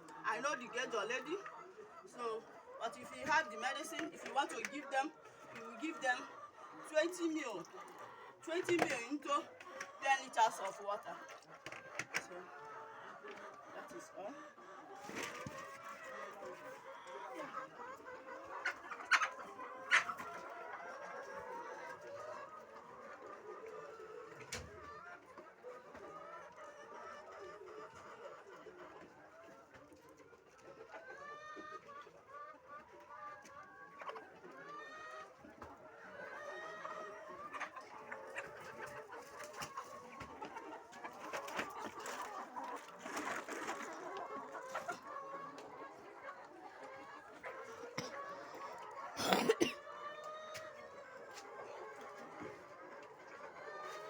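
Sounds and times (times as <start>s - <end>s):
hens clucking: 0.0s - 54.0s.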